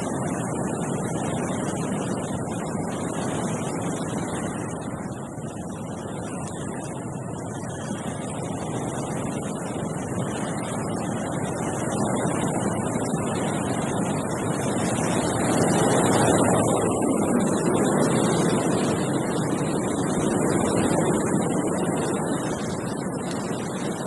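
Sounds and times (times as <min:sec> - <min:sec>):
wind blowing through tree: 0:00.0 - 0:24.0.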